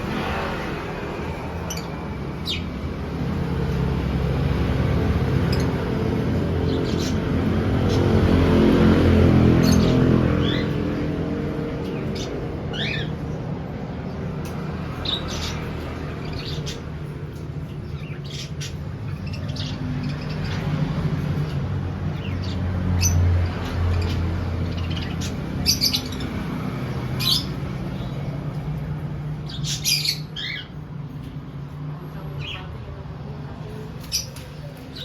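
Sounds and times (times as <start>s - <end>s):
pet birds chirping and squawking: 0.0s - 31.7s, 32.3s - 32.8s, 33.6s - 35.0s.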